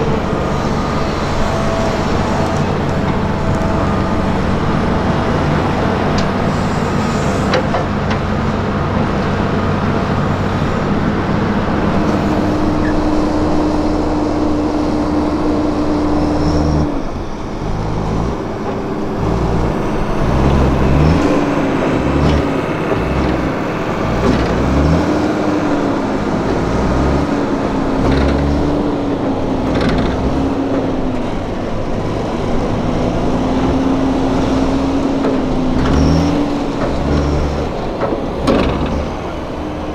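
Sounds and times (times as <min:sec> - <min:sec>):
excavator diesel engine: 0:00.0 - 0:39.9
tractor diesel engine: 0:00.0 - 0:39.9.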